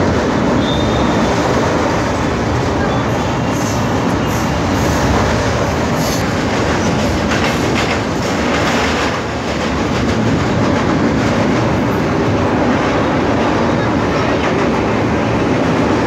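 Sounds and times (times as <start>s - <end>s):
train wheels on bridge track: 0.0s - 16.0s.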